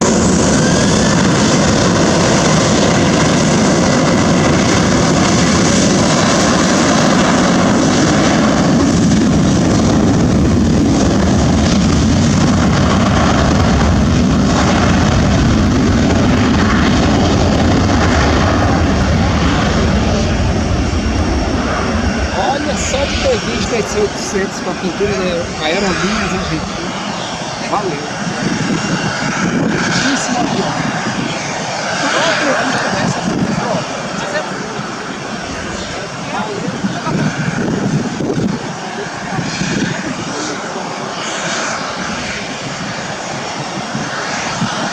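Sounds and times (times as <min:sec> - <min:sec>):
jet engines at takeoff: 0:00.0 - 0:44.9.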